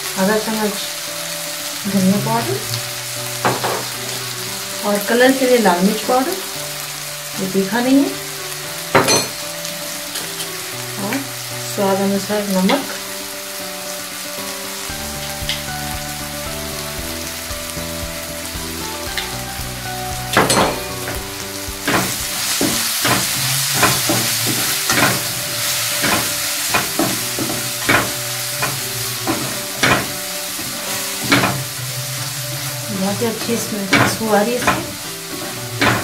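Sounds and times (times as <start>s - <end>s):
background music with held notes: 0.0s - 36.0s
masala sizzling in a pan: 0.0s - 36.0s.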